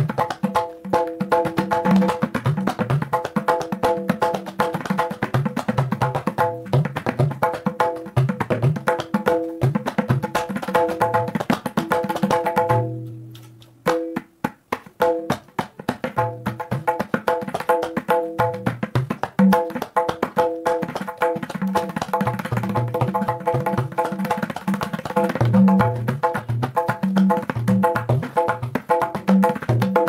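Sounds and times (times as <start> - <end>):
tabla playing: 0.0 - 30.0.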